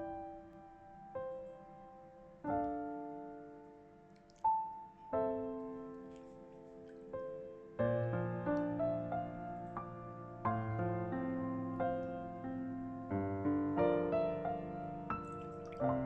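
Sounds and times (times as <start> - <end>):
slow solo piano music: 0.0 - 16.0.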